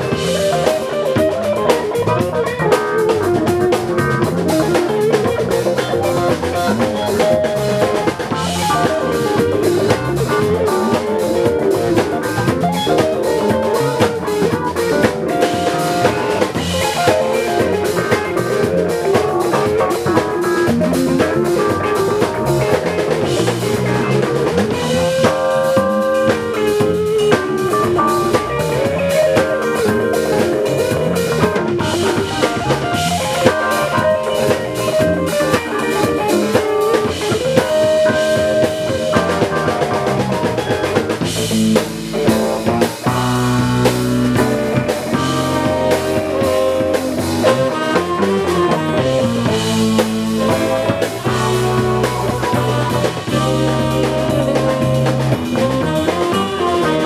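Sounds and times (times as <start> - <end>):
drum kit beat: 0.0 - 57.0
guitar: 0.0 - 57.0
live band playing: 0.0 - 57.0.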